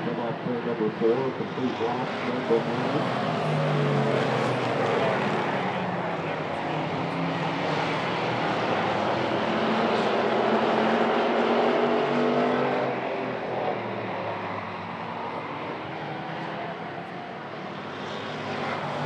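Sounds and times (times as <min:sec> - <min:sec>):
race cars passing: 0:00.0 - 0:19.0.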